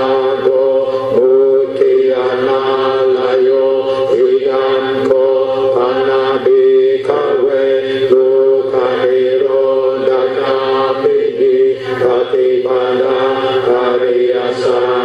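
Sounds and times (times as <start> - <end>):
monotone chanting: 0.0 - 15.0.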